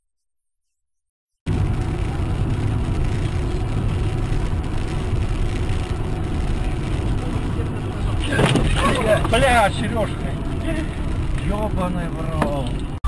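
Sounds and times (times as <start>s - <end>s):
car road and engine noise: 1.5s - 13.0s.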